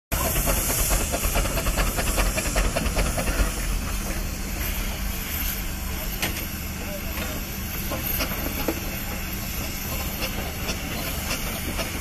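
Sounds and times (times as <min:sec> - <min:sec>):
steam hissing: 0:00.1 - 0:12.0.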